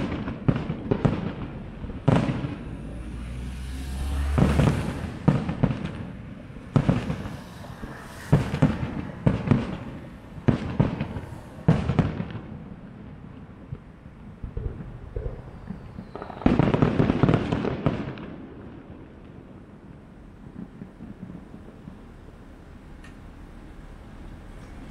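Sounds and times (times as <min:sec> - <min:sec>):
fireworks booming: 0:00.0 - 0:24.3.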